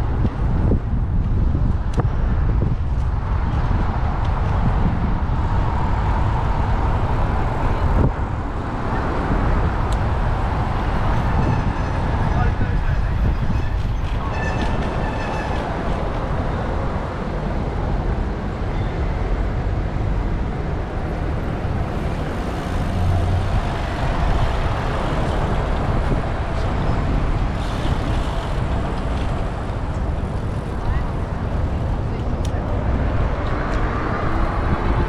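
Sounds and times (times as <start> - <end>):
city traffic and road noise: 0.0 - 35.0
wind rumble on microphone: 0.0 - 35.0.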